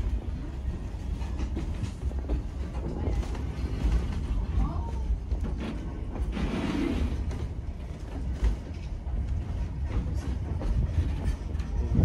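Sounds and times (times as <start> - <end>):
train carriage rumbling: 0.0 - 12.0.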